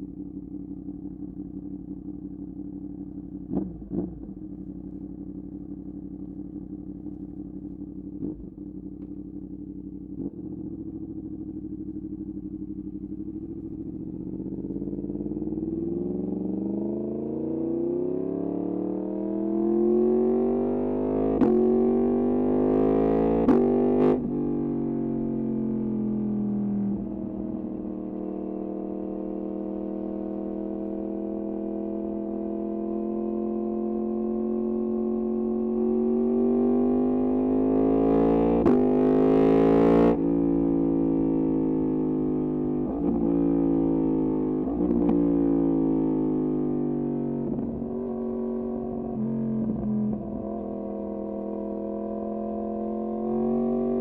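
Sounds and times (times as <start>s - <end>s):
motorcycle engine revving: 0.6s - 54.0s.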